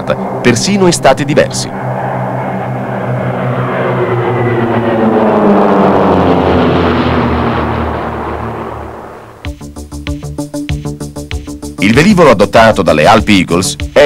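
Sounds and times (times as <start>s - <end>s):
propeller plane passing by: 0.0s - 13.6s.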